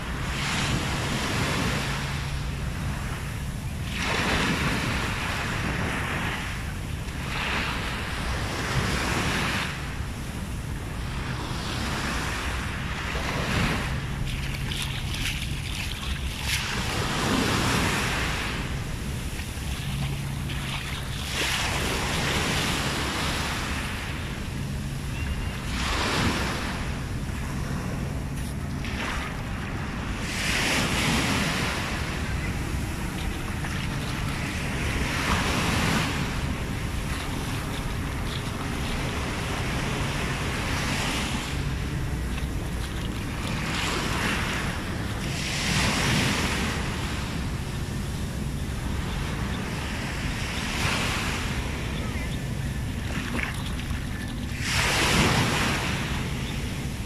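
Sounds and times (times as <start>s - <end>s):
small waves breaking on sand: 0.0s - 57.0s
wind buffeting microphone: 0.0s - 57.0s.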